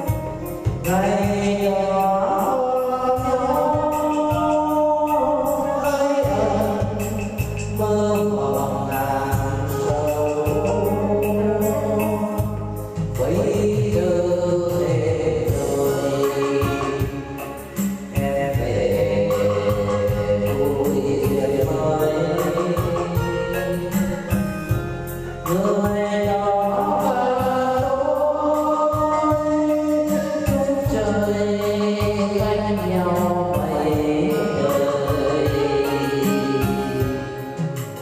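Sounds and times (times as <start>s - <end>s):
instrumental backing music: 0.0s - 38.0s
person singing slow melody: 0.0s - 38.0s.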